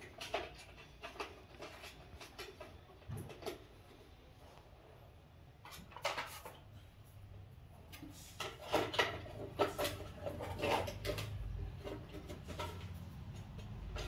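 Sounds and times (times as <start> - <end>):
plastic fan parts rattling: 0.0 - 3.9, 5.6 - 7.0, 7.9 - 14.0.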